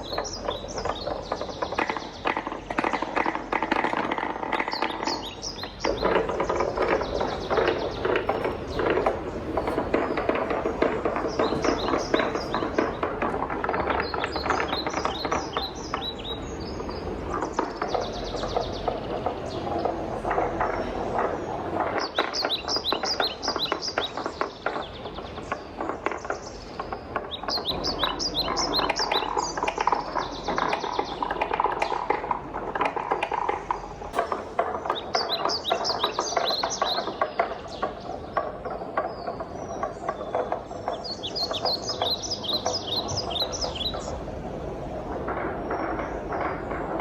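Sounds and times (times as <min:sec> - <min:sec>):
wooden balls rolling down track: 0:00.0 - 0:47.0.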